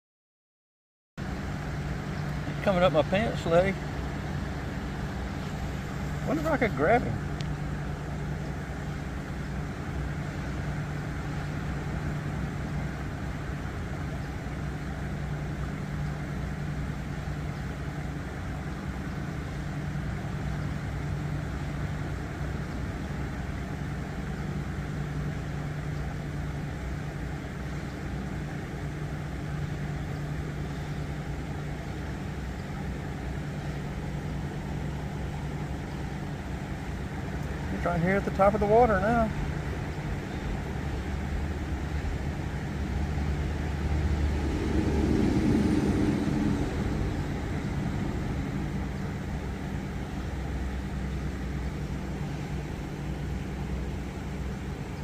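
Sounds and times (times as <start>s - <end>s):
creek water flowing: 1.2s - 55.0s
low hum: 1.2s - 55.0s.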